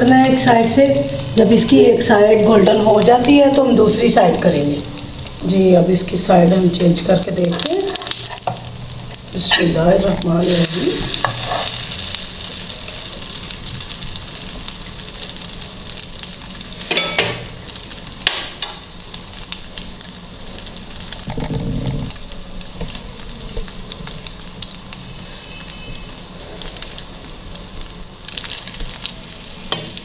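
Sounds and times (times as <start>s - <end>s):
oil sizzling and crackling: 0.0s - 30.0s.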